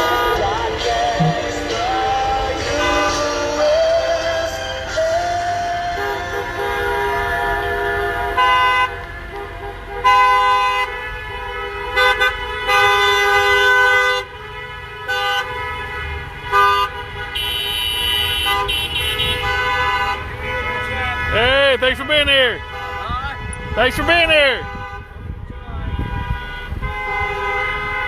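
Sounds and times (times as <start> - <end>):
car horns honking: 0.0 - 28.0
traffic rumble: 0.0 - 28.0.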